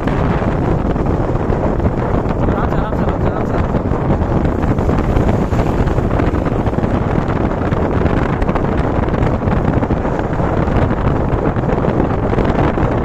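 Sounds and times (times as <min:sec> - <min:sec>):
motorcycle engine running: 0:00.0 - 0:13.0
road noise: 0:00.0 - 0:13.0
wind buffeting microphone: 0:00.0 - 0:13.0.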